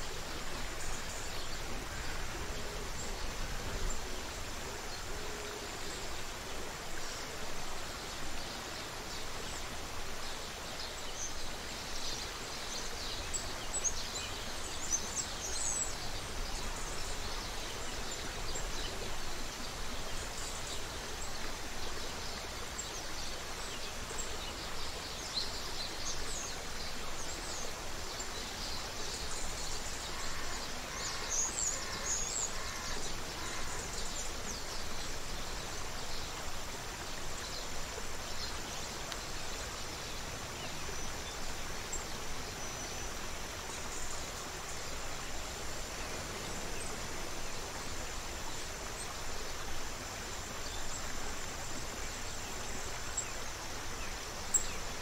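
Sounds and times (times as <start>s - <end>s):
creek water running: 0.0s - 55.0s.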